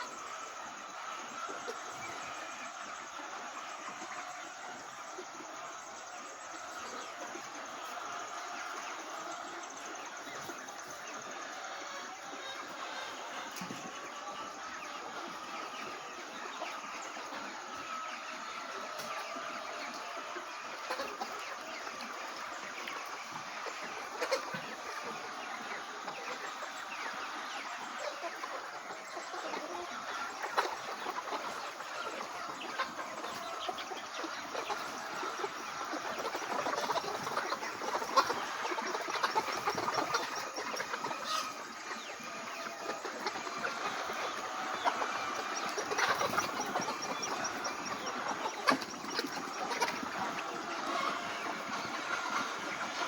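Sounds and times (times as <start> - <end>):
hens clucking: 0.0 - 53.0.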